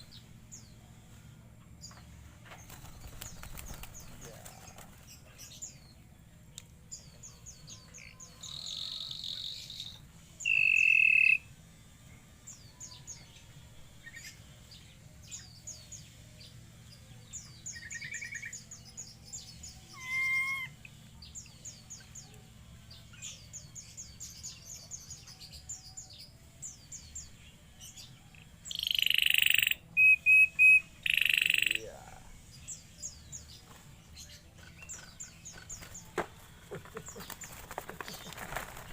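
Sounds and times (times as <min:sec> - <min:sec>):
birds chirping and calling: 0:01.8 - 0:06.0, 0:06.6 - 0:11.5, 0:12.5 - 0:38.9.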